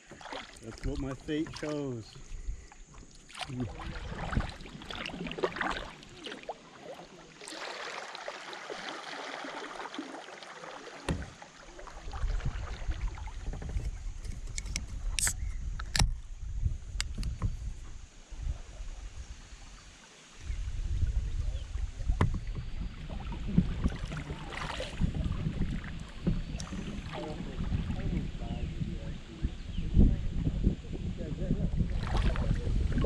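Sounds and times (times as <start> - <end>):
paddle splashing in water: 0.0 - 15.3, 17.4 - 28.9, 31.8 - 33.0.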